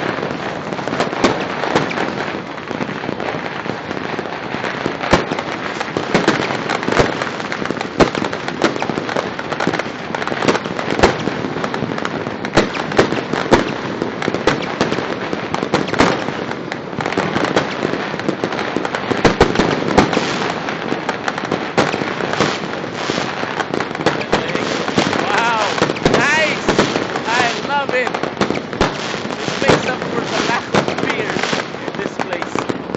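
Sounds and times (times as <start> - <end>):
fireworks crackling: 0.0 - 32.9
loud sharp firework reports: 0.0 - 32.9.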